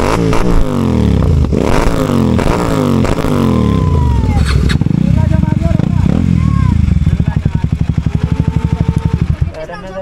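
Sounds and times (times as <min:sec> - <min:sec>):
exhaust popping: 0:00.0 - 0:10.0
motorcycle engine revving: 0:00.0 - 0:10.0.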